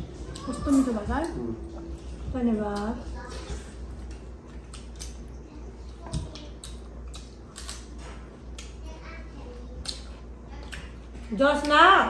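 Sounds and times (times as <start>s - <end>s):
steady low hum: 0.0s - 12.0s
wet chewing and hand mixing food: 0.0s - 12.0s.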